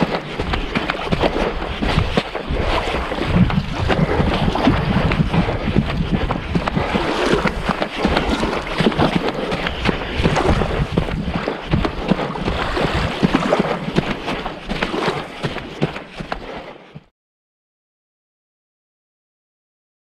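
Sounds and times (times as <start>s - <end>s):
wind buffeting microphone: 0.0s - 16.2s
lake water washing: 0.0s - 17.1s.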